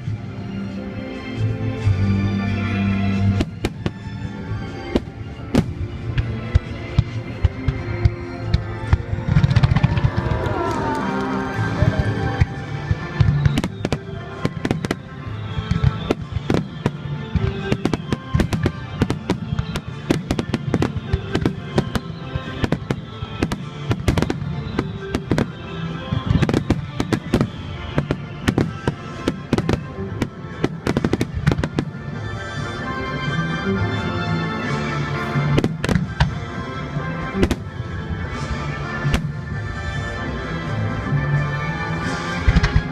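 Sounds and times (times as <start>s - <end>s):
music playing: 0.0s - 42.9s
fireworks bursting and crackling: 1.9s - 42.9s.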